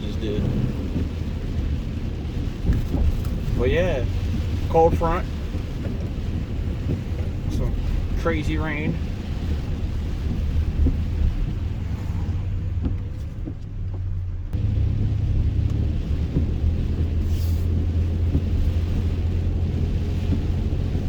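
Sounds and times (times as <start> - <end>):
tyres hissing on wet road: 0.0 - 13.5, 14.6 - 21.0
truck engine and road rumble: 0.0 - 21.0.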